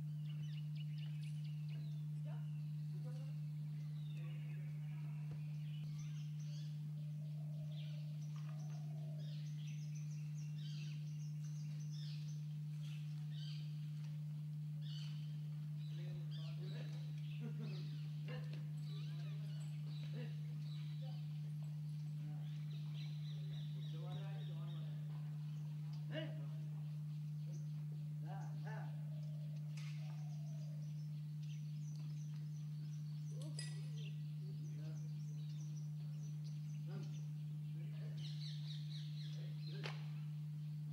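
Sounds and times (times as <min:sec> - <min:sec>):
birds chirping: 0:00.0 - 0:40.9
loud steady low hum: 0:00.0 - 0:40.9.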